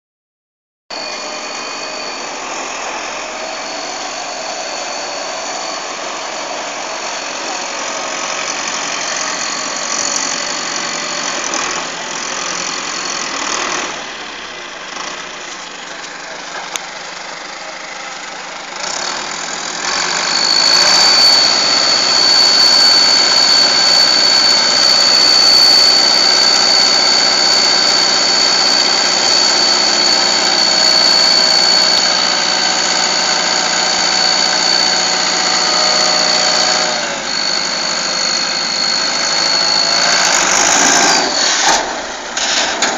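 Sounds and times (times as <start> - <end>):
turbo whistle: 0.9 - 14.0, 18.9 - 42.2
tractor diesel engine running: 0.9 - 42.9.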